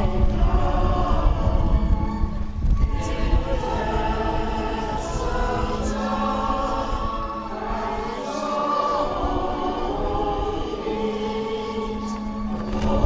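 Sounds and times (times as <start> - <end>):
group singing a hymn: 0.0 - 13.0
low wind rumble: 0.0 - 13.0.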